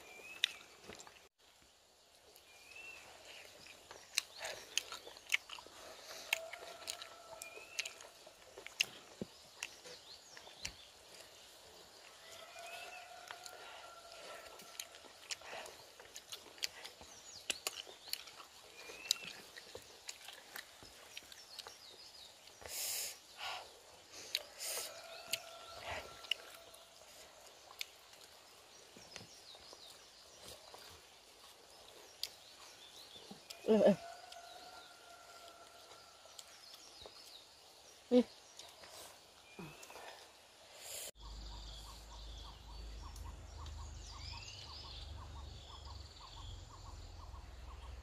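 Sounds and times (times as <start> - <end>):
birds and insects chirping: 0.0 - 48.0.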